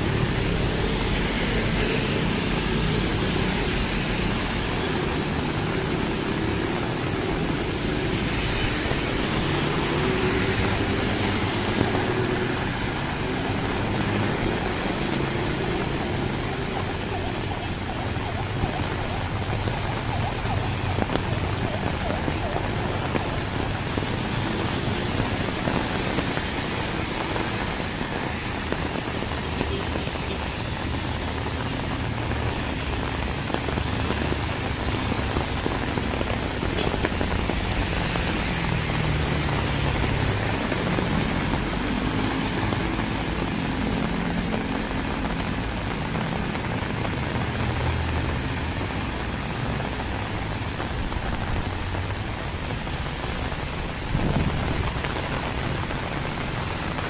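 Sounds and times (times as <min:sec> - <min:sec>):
heavy rain falling: 0:00.0 - 0:57.0
vehicles passing on wet road: 0:00.0 - 0:57.0.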